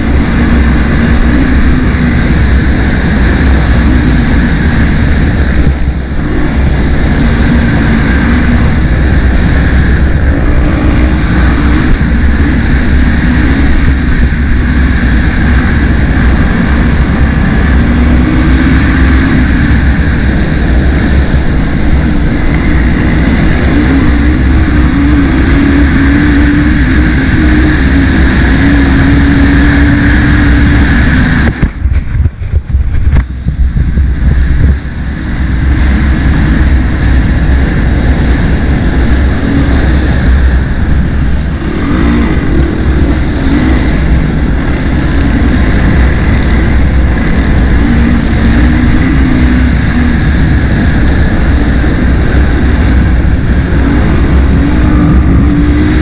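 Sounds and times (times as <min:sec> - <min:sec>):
quad engine running hard: 0:00.0 - 0:56.0
wind buffeting microphone: 0:00.0 - 0:56.0.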